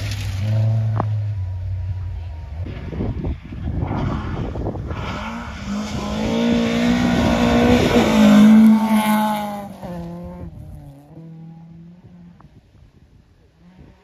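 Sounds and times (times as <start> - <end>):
rally car engine passing: 0.0 - 12.5.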